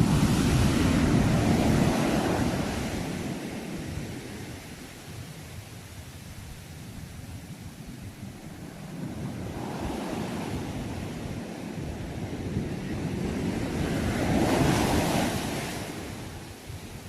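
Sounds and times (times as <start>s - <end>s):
sea waves surging: 0.0s - 17.0s.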